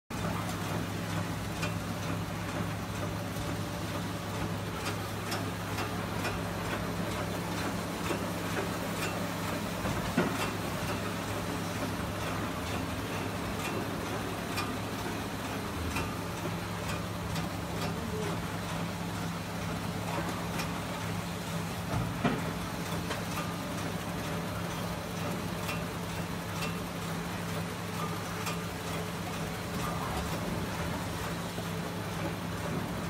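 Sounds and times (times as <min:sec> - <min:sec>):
packing machine humming: 0:00.2 - 0:33.0.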